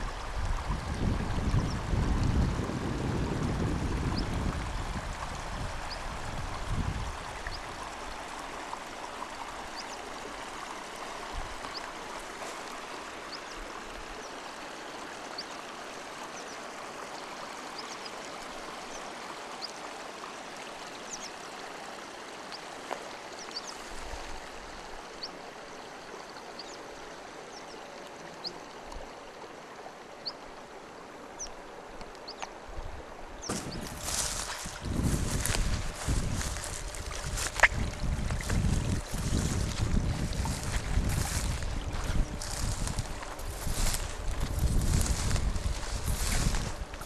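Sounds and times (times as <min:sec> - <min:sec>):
stream rushing over rocks: 0:00.0 - 0:47.0.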